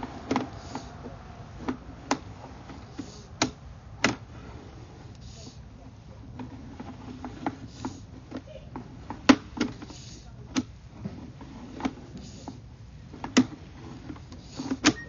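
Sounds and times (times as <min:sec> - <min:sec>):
cable clicking and knocking: 0:00.0 - 0:04.3, 0:06.3 - 0:15.0.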